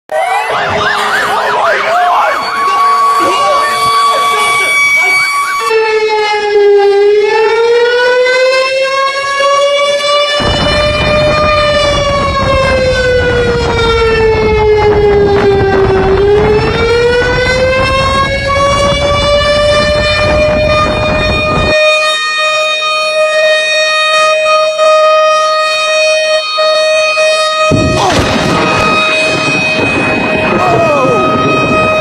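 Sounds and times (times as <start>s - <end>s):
warning siren wailing: 0.1s - 32.0s.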